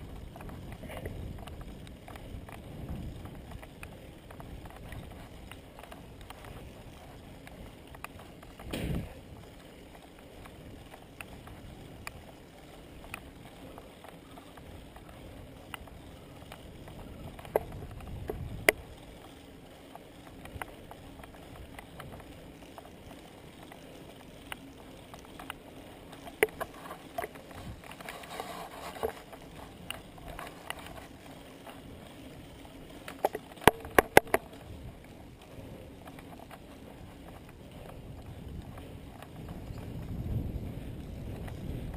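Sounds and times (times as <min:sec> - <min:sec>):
bicycle tyre and wind noise: 0:00.0 - 0:41.9
bike clicks and rattles: 0:00.0 - 0:41.9.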